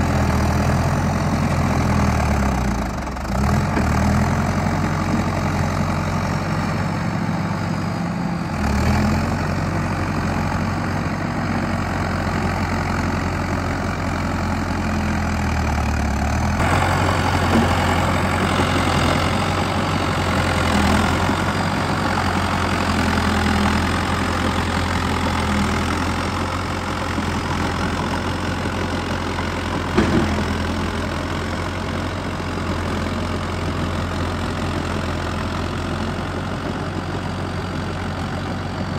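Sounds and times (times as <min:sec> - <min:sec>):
diesel dozer engine running: 0:00.0 - 0:38.9.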